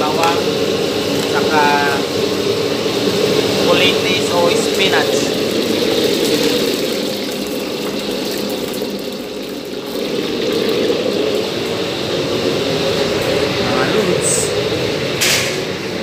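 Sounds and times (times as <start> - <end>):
kitchen machinery drone: 0.0 - 16.0.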